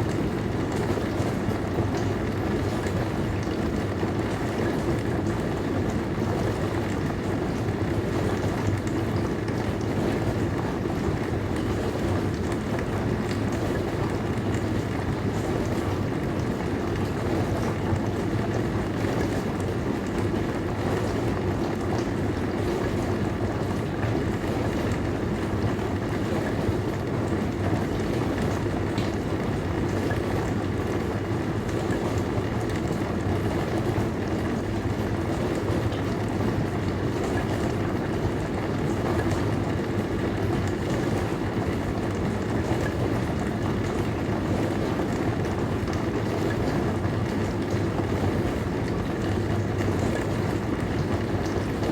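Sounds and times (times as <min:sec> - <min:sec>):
dishwasher running: 0:00.0 - 0:51.9.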